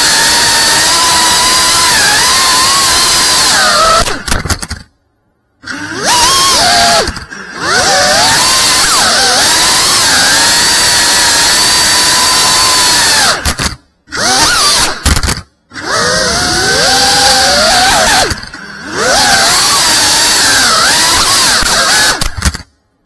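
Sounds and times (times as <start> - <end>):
drone motors whining: 0.0 - 4.9, 5.6 - 22.6.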